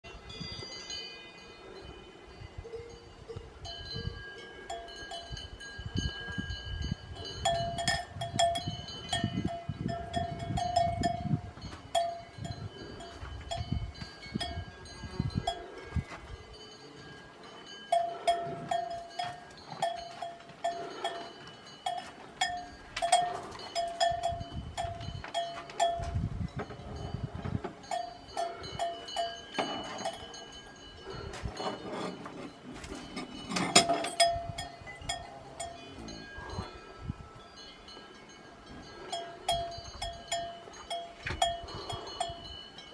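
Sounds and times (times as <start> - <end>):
cowbell clanking: 0.1 - 42.9.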